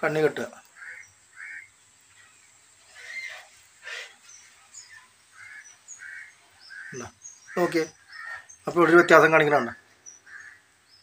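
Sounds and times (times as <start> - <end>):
faint bird calls: 0.6 - 11.0.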